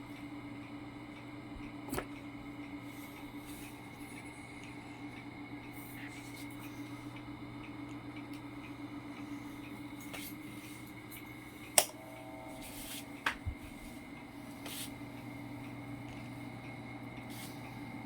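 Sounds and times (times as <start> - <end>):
electric motor humming and whining: 0.0 - 18.0.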